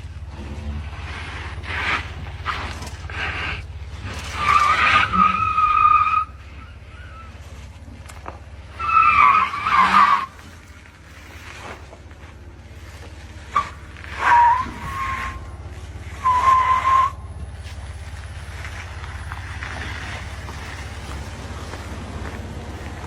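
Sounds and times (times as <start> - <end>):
tyres squealing: 0.4 - 23.0.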